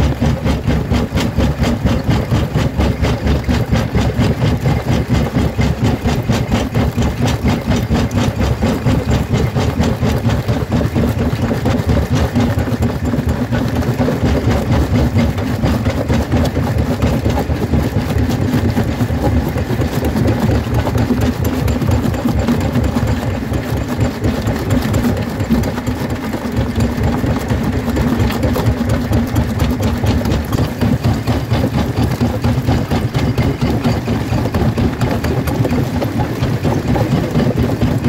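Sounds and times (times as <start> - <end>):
jaw crusher crushing rocks: 0.0 - 38.0.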